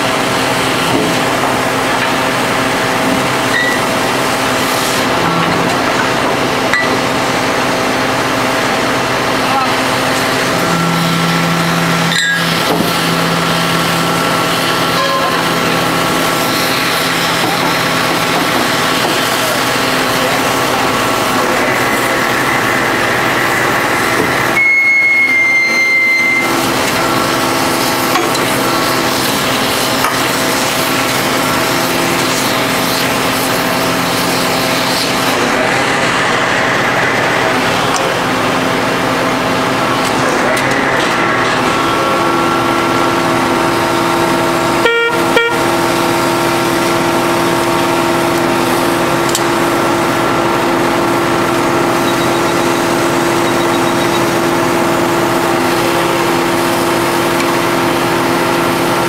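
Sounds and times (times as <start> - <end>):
loud high steady tone: 0.0 - 5.6, 6.4 - 59.0
hydraulic power pack engine hum: 0.0 - 59.0.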